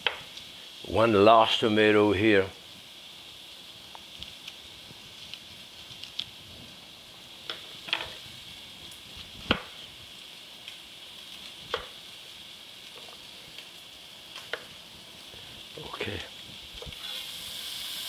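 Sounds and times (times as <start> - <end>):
meat sizzling in a pot: 0.0 - 18.0.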